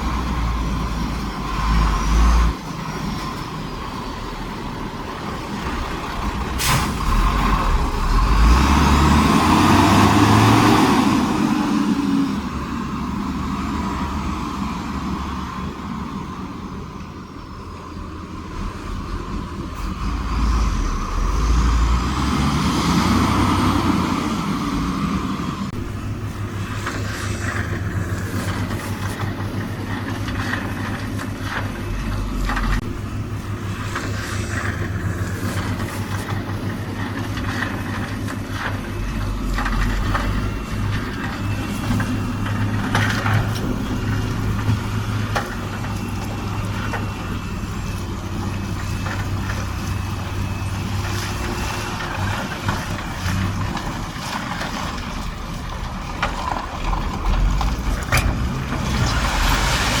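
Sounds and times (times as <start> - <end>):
diesel engine under load: 0.0 - 60.0.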